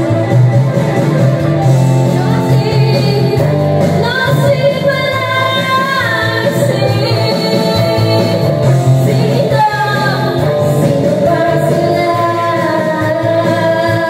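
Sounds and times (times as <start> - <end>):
karaoke backing track: 0.0 - 14.0
woman singing karaoke: 0.0 - 14.0.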